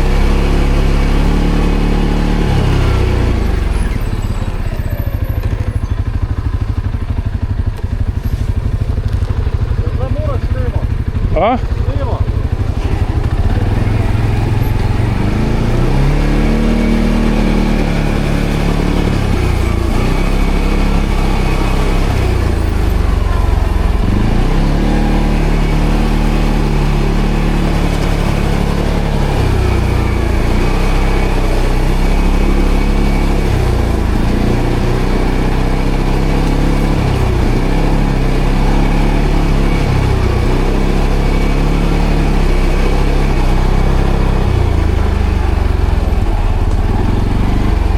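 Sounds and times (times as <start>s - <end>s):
atv engine revving: 0.0s - 47.9s.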